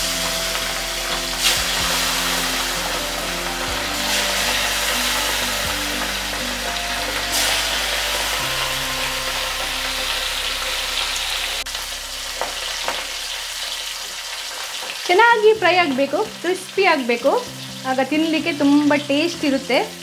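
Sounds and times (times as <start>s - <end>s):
oil bubbling and sizzling: 0.0s - 20.0s.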